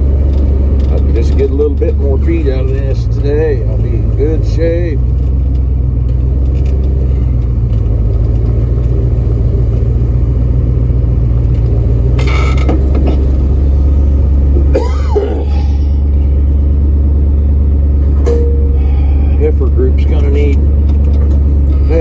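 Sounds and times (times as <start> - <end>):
truck engine drone from inside cab: 0.0 - 22.0.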